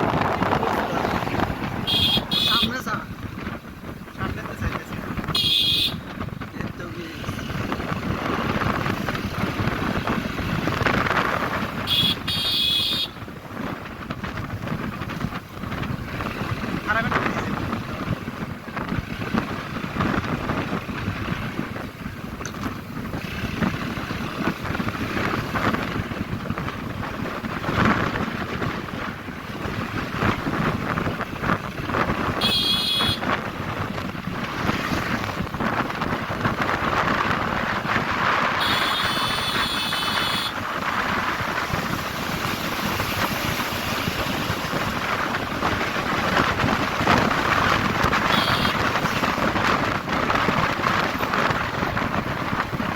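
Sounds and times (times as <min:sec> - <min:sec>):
road noise: 0:00.0 - 0:52.9
wind buffeting microphone: 0:00.0 - 0:52.9.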